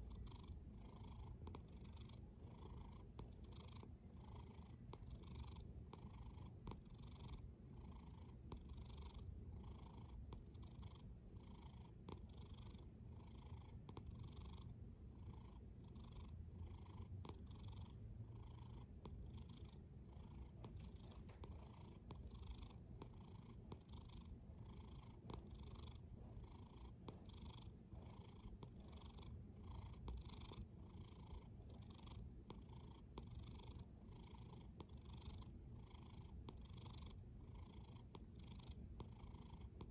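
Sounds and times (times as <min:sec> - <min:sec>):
cat snoring softly: 0:00.0 - 0:39.9.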